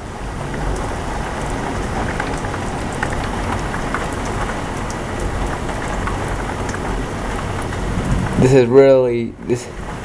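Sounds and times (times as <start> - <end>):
heavy rain pouring: 0.0 - 10.0
sharp ticks of raindrops: 0.0 - 10.0.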